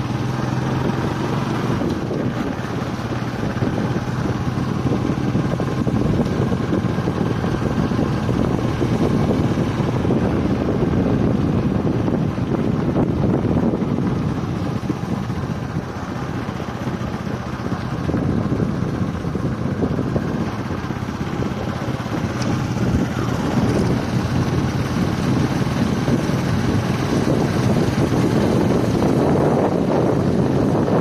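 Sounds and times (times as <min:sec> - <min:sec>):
vehicle low rumble: 0:00.0 - 0:31.0
wind on microphone: 0:00.0 - 0:31.0.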